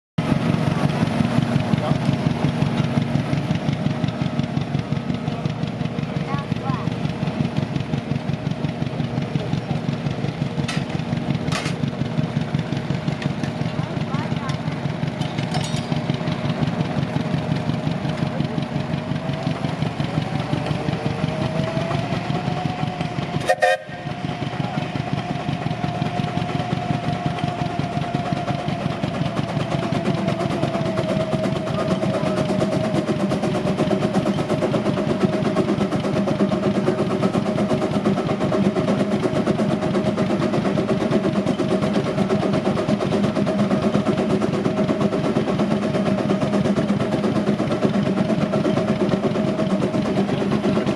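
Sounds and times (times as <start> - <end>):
steam engine exhaust beats: 0.2 - 50.9.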